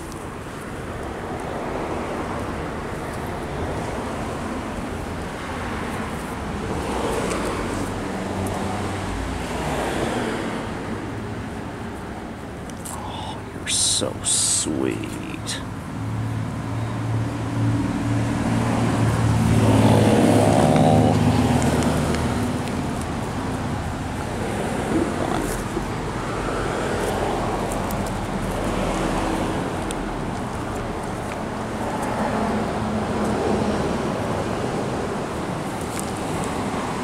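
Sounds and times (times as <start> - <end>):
road traffic noise: 0.0 - 37.0
vehicle engine hum: 0.0 - 37.0.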